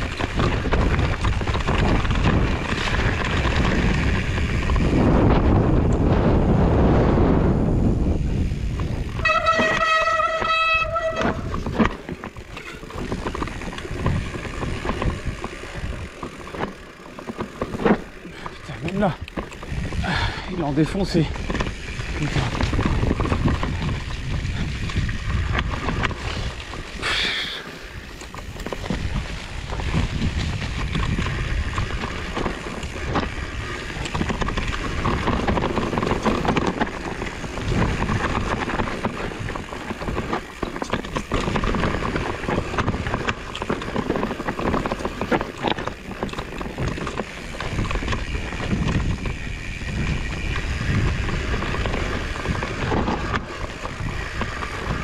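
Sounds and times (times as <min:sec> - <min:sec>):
bike rattling: 0:00.0 - 0:55.0
bike tyres rumbling on stones: 0:00.0 - 0:55.0
wind buffeting microphone: 0:00.0 - 0:55.0.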